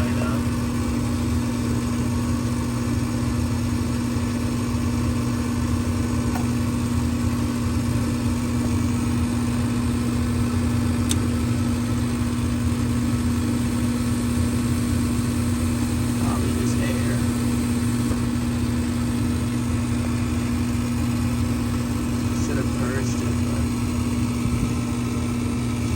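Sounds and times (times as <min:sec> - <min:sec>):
furnace fan motor humming: 0:00.0 - 0:25.9.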